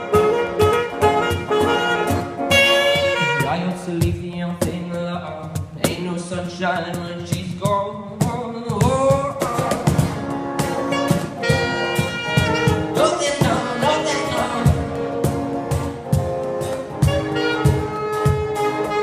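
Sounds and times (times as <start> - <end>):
band melody: 0.0 - 19.0.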